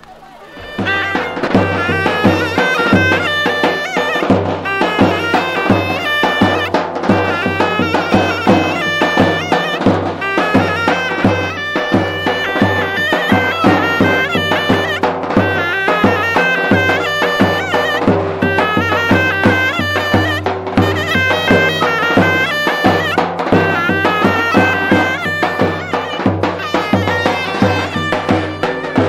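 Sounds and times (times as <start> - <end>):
reed pipe melody: 0.0 - 29.0
steady drum beat: 0.0 - 29.0.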